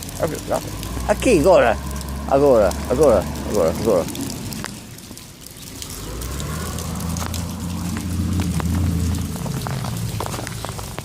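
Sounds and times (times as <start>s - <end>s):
vehicle engine passing by: 0.2s - 5.0s, 5.7s - 11.0s.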